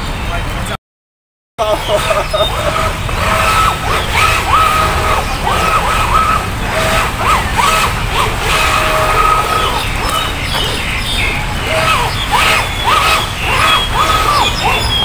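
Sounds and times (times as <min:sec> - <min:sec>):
model boat motor whining: 0:01.6 - 0:15.0.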